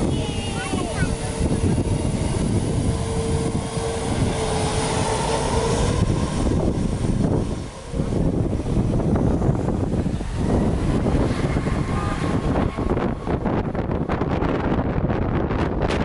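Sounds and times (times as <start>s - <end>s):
jet engines roaring at high thrust: 0.0s - 16.0s
rising jet engine whine: 0.0s - 16.0s.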